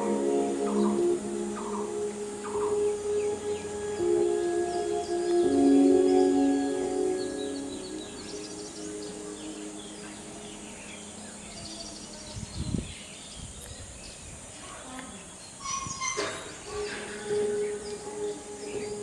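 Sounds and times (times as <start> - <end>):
natural background hiss: 0.0 - 19.0
small birds chirping: 0.0 - 19.0.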